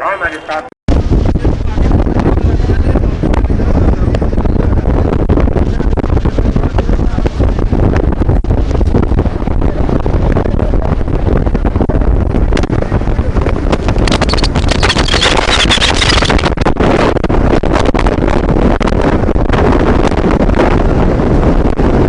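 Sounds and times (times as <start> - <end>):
wind buffeting microphone: 0.9 - 22.0.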